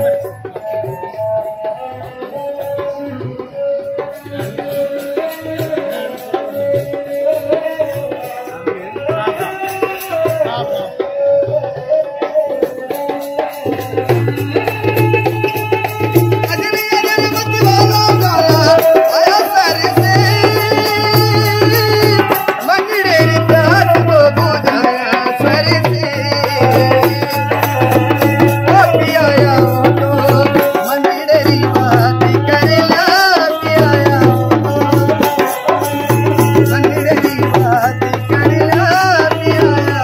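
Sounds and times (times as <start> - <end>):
barrel drum rhythm: 0.0 - 40.0.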